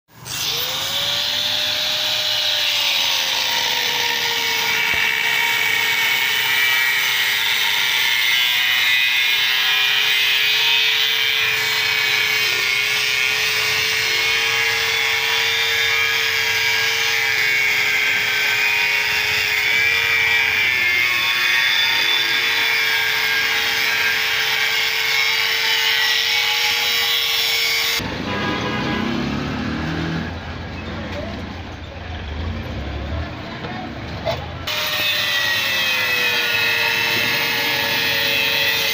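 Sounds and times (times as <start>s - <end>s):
angle grinder cutting steel: 0.1s - 28.2s, 34.6s - 38.9s.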